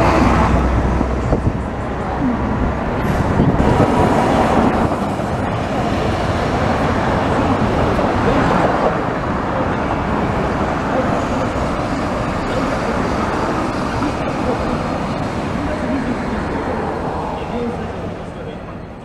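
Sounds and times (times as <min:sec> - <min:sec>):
steady traffic noise: 0:00.0 - 0:19.0
tram pulling in: 0:00.0 - 0:19.0
tram rolling by: 0:00.0 - 0:19.0.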